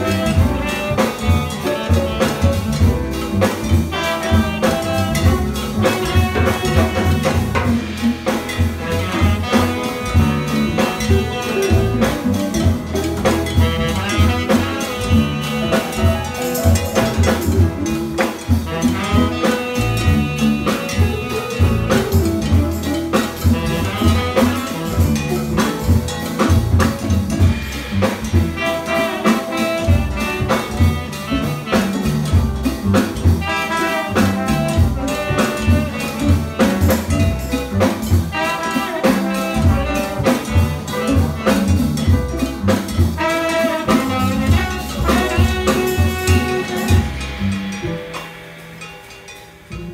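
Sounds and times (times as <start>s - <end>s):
saxophone: 0.0s - 47.7s
upright bass: 0.0s - 48.1s
congas: 0.0s - 49.9s
drum kit: 0.0s - 49.9s
piano: 0.0s - 49.9s
trombone: 0.0s - 49.9s.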